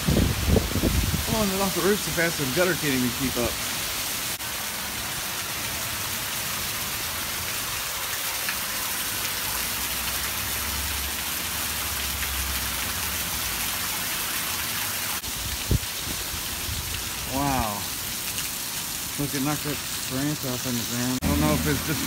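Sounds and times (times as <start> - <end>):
torrential rain: 0.0 - 22.0
water pouring off roof: 0.0 - 22.0.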